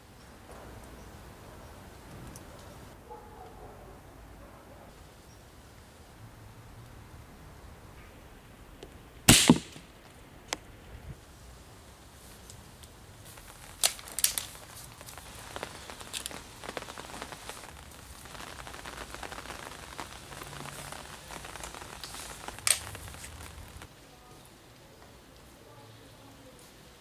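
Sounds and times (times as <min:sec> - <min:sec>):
light rain pattering: 0:00.0 - 0:27.0.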